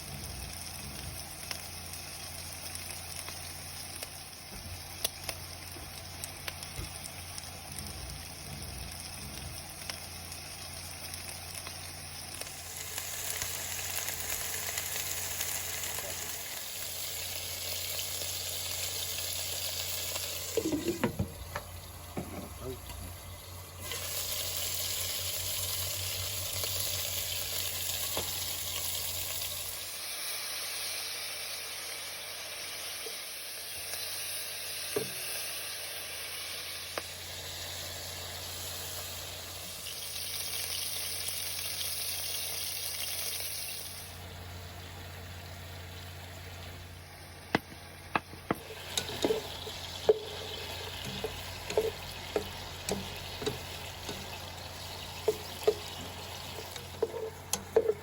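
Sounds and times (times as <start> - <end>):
chicken wings sizzling in a pan: 0.0 - 58.0.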